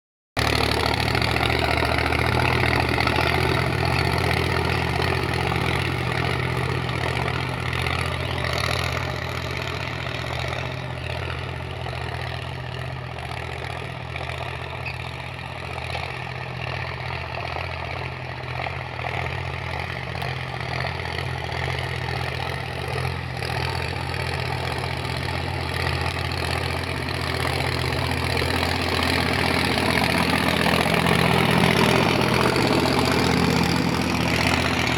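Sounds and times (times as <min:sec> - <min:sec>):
tractor diesel engine running: 0:00.4 - 0:34.9.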